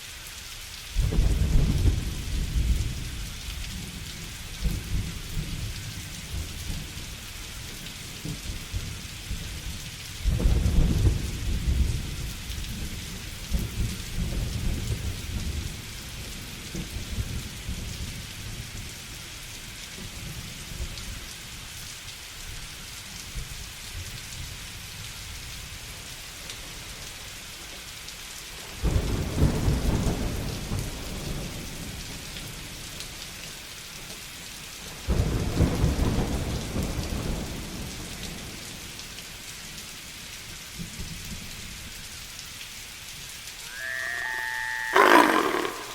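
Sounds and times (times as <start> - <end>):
rain hiss: 0.0 - 45.9.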